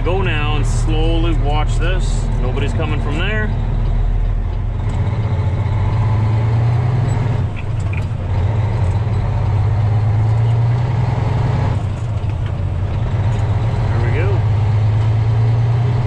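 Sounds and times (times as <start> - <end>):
truck diesel engine accelerating: 0.0 - 16.0.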